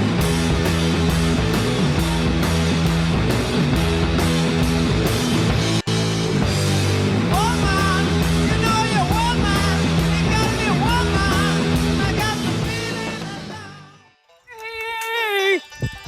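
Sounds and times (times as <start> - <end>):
gliding lead guitar line: 0.0 - 14.0
loud rock music: 0.0 - 14.1.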